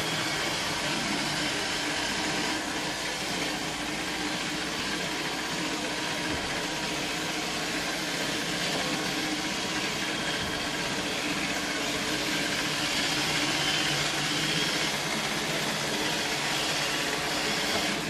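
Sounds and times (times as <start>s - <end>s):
robot vacuum whirring: 0.0s - 18.0s.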